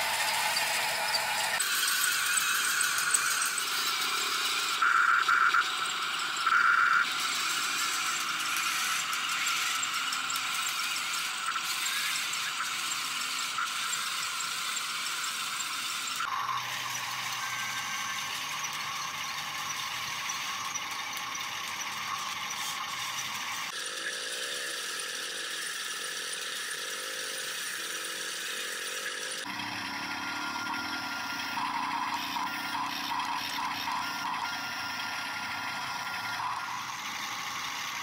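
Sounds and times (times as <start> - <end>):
toy excavator motors whining: 0.0 - 38.0.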